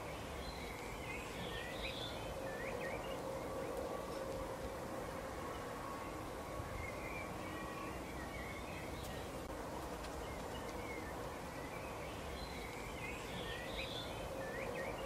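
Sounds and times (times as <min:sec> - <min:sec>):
background hiss: 0:00.0 - 0:15.0
small birds twittering: 0:00.0 - 0:15.0.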